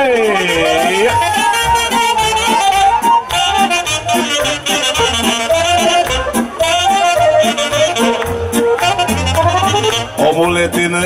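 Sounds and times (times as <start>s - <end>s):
bass and drum beat: 0.0s - 11.0s
keyboard and accordion: 0.0s - 11.0s
saxophone melody: 0.0s - 11.0s.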